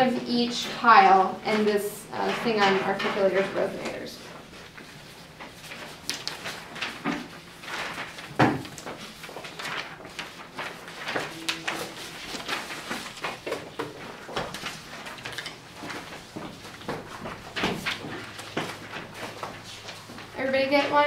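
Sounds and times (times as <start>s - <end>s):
paper rustling and shuffling: 0.2s - 21.0s.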